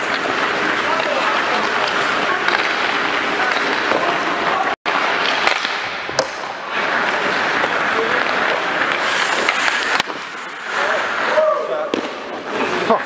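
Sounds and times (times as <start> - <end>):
hockey sticks and pucks clacking: 0.0 - 13.0
skate blades scraping ice: 0.0 - 13.0.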